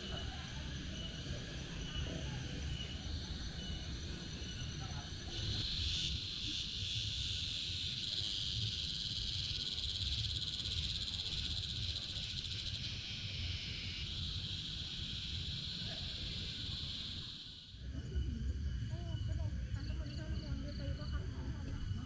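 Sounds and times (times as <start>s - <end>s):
insects buzzing trill: 0.0s - 22.0s.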